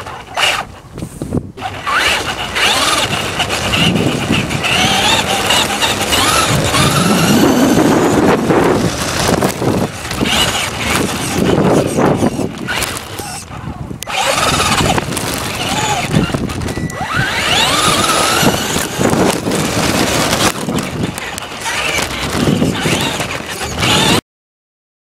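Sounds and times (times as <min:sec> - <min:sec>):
electric motor and gears whining: 0:00.0 - 0:00.8, 0:01.6 - 0:24.2
tyres rattling on brick paving: 0:00.0 - 0:24.2.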